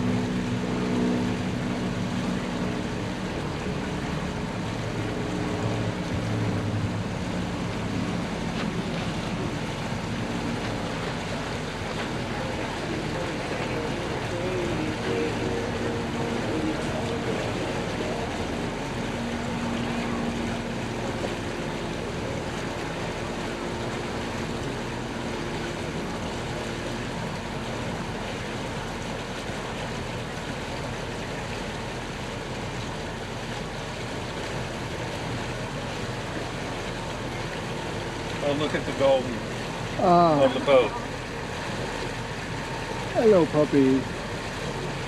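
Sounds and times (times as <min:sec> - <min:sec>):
boat engine humming: 0:00.0 - 0:45.0
water and wind rushing: 0:00.0 - 0:45.0.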